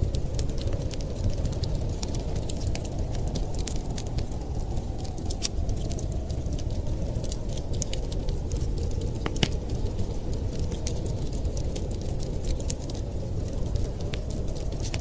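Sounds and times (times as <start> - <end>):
blizzard wind: 0.0 - 15.0
wood fire crackling and popping: 0.0 - 15.0.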